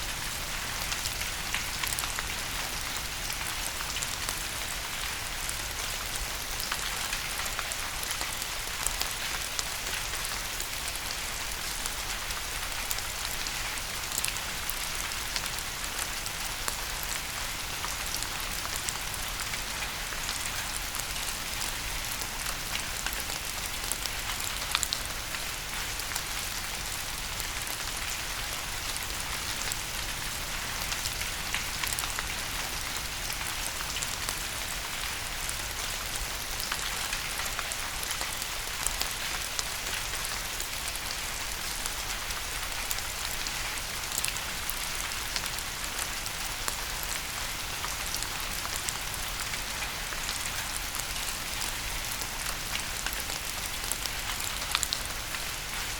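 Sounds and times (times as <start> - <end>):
rain falling on a surface: 0.0 - 55.9.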